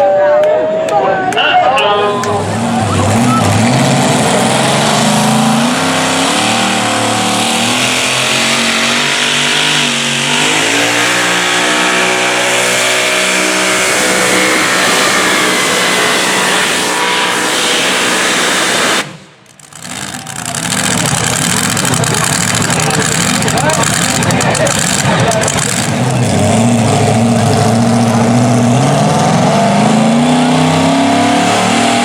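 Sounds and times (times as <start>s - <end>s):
truck engine at high revs: 0.9s - 32.0s.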